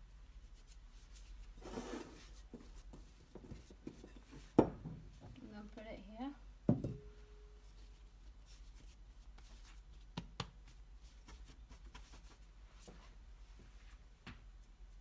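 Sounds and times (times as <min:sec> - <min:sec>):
hands shaping dough: 0:00.1 - 0:05.9, 0:07.6 - 0:15.0.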